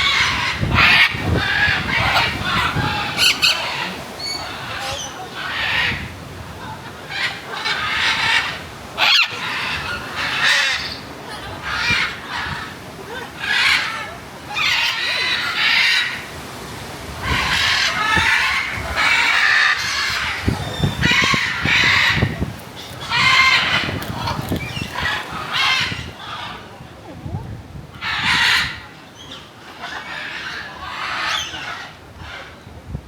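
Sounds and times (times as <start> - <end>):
parrots squawking: 0.0 - 6.1, 6.7 - 12.8, 13.4 - 16.2, 17.3 - 26.6, 28.0 - 32.4.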